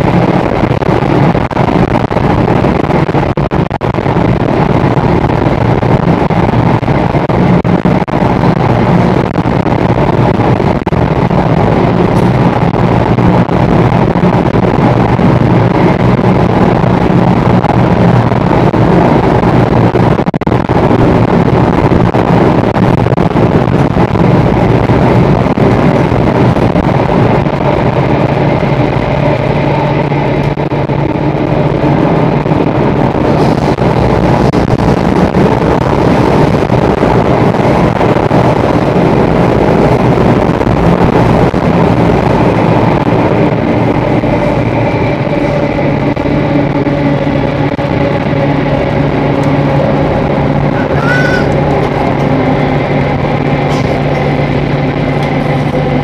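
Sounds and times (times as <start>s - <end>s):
steady hum: 0.0s - 56.0s
train wheels rumbling on rail: 0.0s - 56.0s.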